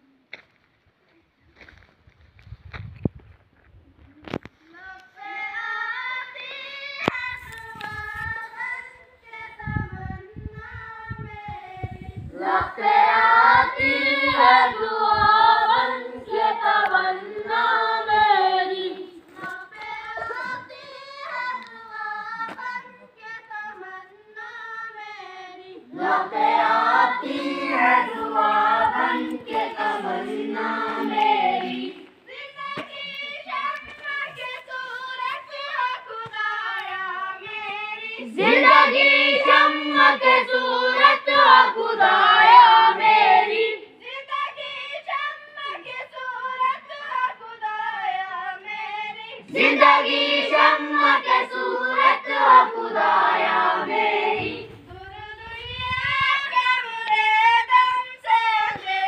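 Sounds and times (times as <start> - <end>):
children singing in unison: 11.2 - 59.0.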